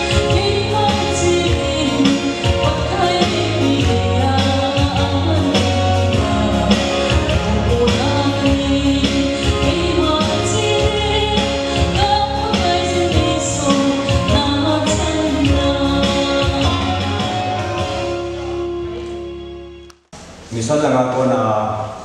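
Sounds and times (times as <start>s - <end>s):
woman singing into a microphone: 0.0s - 17.8s
instrumental music with steady beat: 0.0s - 20.2s.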